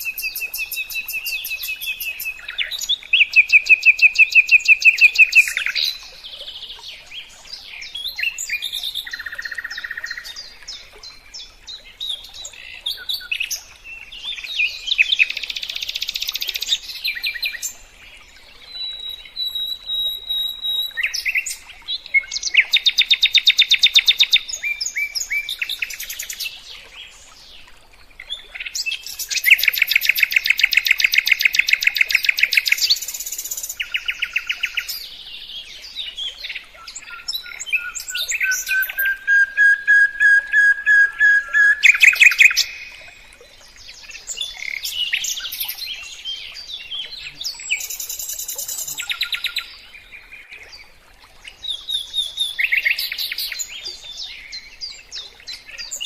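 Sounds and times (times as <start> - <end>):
songbird singing trills: 0.0 - 17.9, 18.7 - 26.7, 28.2 - 50.6.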